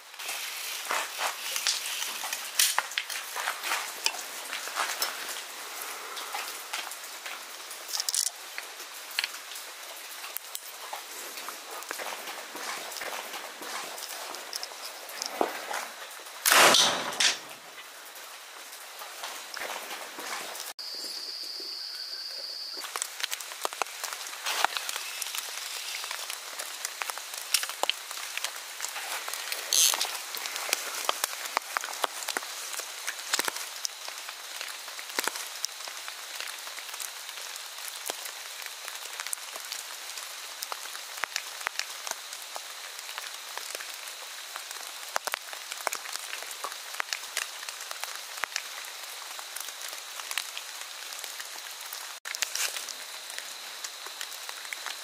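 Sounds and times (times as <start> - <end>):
rain pattering on leaves: 0.0 - 20.8, 22.8 - 55.0.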